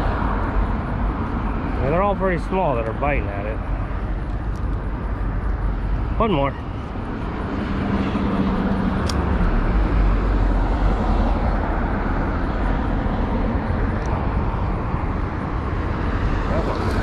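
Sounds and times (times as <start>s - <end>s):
heavy vehicle low rumble: 0.0s - 17.0s
highway traffic: 0.0s - 17.0s.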